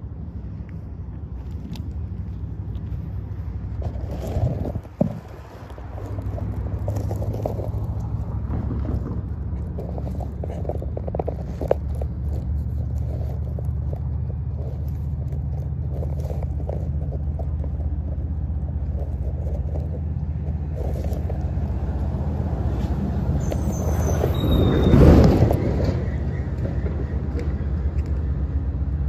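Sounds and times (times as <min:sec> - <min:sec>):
locomotive engine rumbling: 0:00.0 - 0:29.0.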